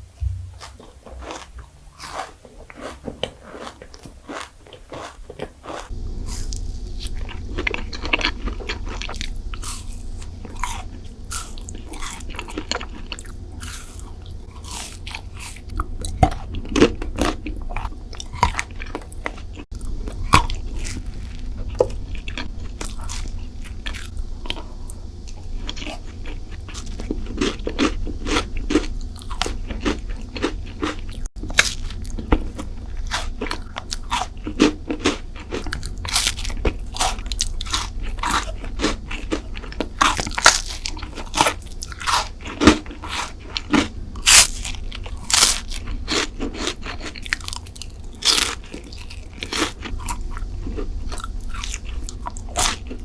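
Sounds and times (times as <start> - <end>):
crunchy chewing of sweets: 0.4 - 53.0.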